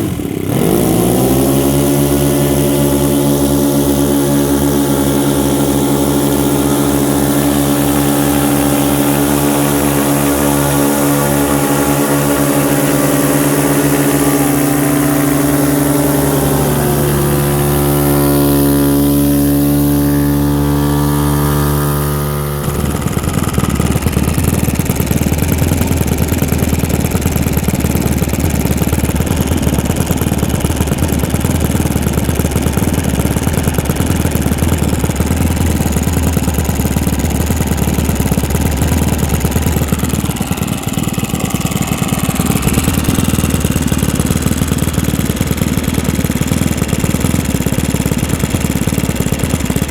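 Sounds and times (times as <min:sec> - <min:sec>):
model aircraft engines running: 0:00.0 - 0:49.9.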